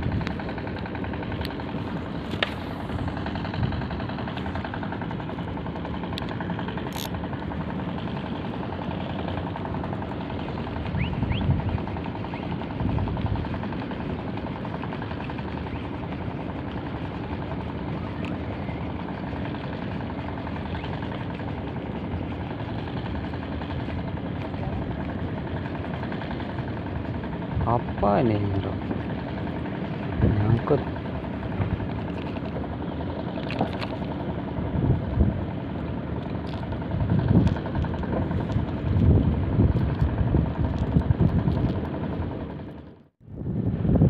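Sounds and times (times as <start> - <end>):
engine droning: 0.0 - 44.0.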